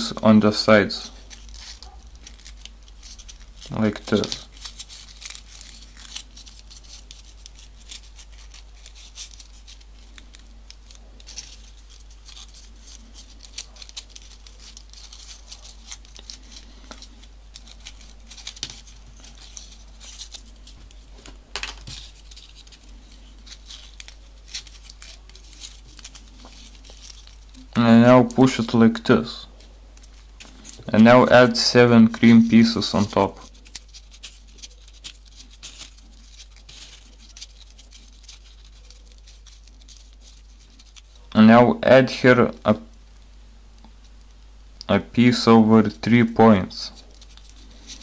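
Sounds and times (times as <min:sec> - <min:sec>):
paper rustling and clicking: 0:00.9 - 0:28.8, 0:30.0 - 0:41.3, 0:46.9 - 0:48.0.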